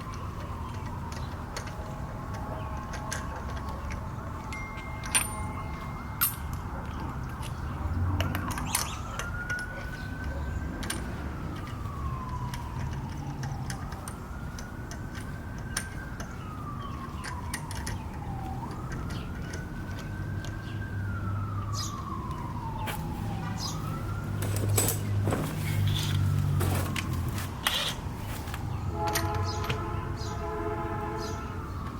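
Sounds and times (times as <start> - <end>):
siren wailing: 0.0 - 31.9.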